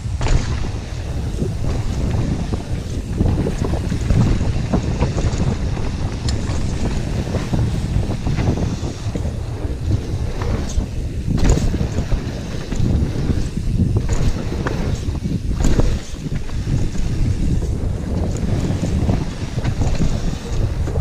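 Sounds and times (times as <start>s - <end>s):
mountain bike rumble and rattle: 0.0s - 21.0s
sharp clacks over bumps: 0.0s - 21.0s
wind buffeting microphone: 0.0s - 21.0s.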